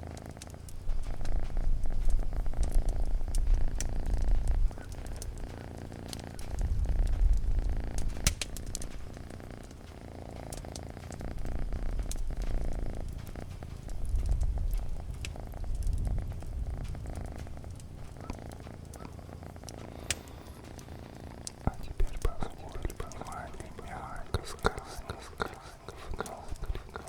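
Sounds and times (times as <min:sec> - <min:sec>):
cat purring: 0:00.0 - 0:27.0
crackling campfire: 0:00.0 - 0:27.0.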